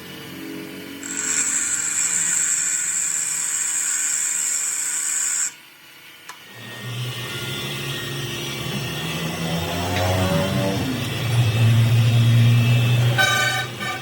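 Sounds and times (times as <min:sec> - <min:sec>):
power tool whining: 0:00.4 - 0:05.7, 0:06.3 - 0:14.0.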